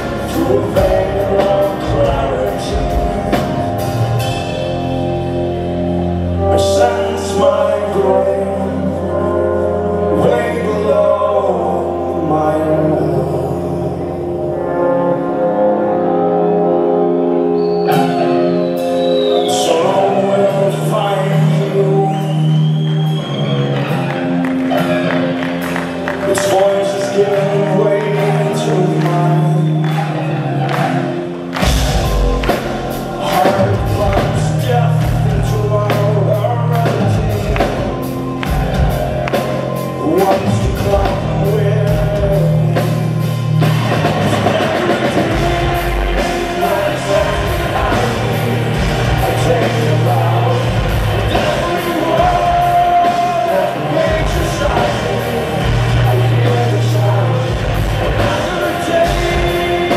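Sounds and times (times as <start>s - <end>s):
male lead vocal: 0.0s - 5.4s, 6.2s - 17.0s, 17.8s - 59.9s
drum kit and bass: 0.0s - 11.4s, 17.9s - 59.9s
guitars and keyboards: 0.0s - 59.9s.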